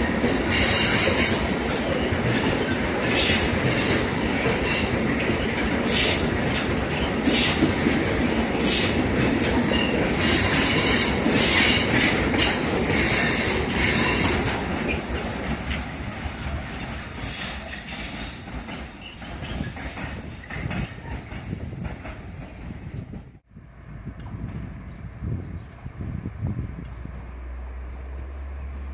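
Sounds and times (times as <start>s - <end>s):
freight train rolling past: 0.0s - 28.9s.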